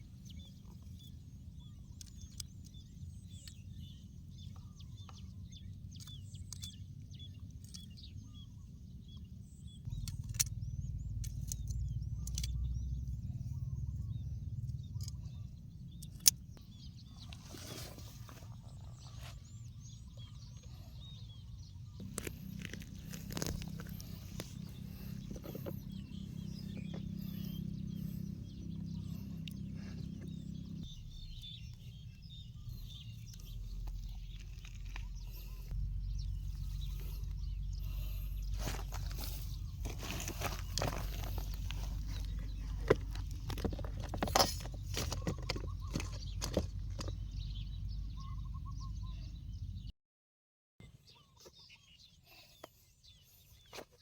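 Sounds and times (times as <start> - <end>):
bird chirps: 0.0 - 49.9
steady low rumble: 0.0 - 49.9.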